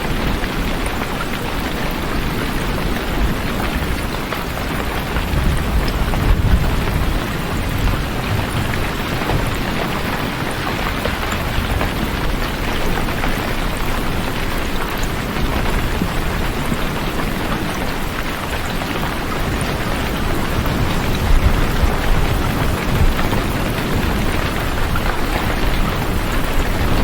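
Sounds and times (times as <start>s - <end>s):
heavy rain: 0.0s - 27.0s.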